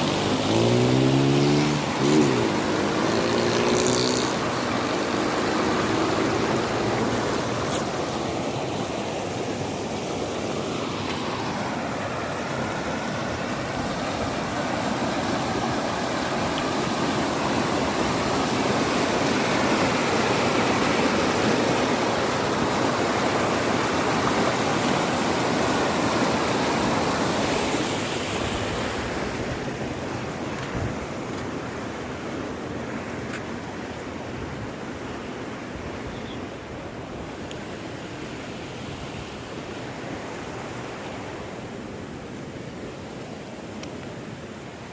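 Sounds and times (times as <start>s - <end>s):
floodwater roaring in river: 0.0s - 44.9s.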